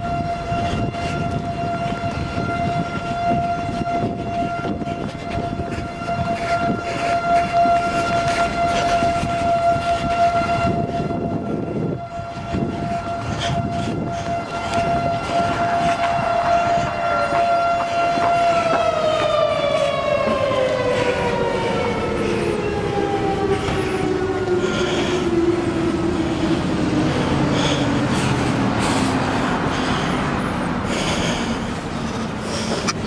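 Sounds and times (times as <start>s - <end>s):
civil defense siren wailing: 0.0s - 33.0s
street traffic: 0.0s - 33.0s.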